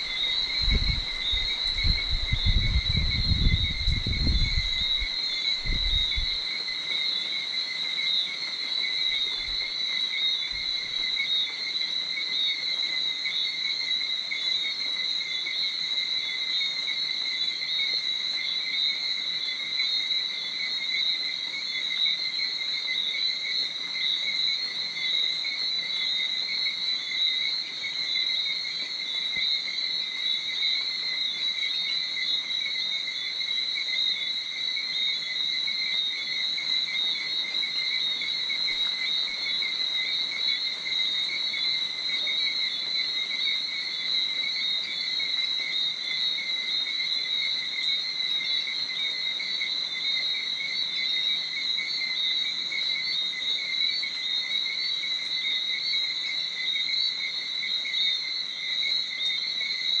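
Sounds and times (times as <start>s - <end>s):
insects trilling: 0.0s - 60.0s.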